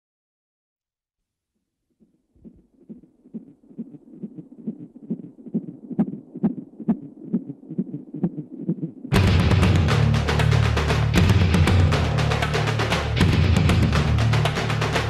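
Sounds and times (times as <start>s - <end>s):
low thumping beat: 2.4s - 15.0s.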